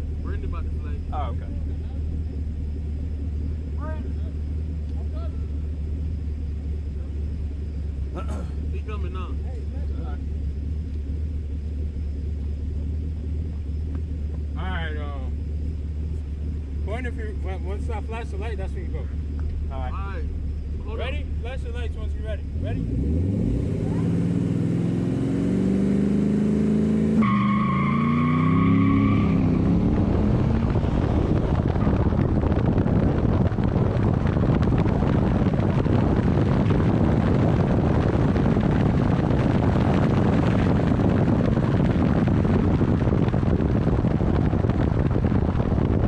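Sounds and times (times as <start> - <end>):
car engine accelerating: 0.0 - 46.0
wind and road noise: 0.0 - 46.0.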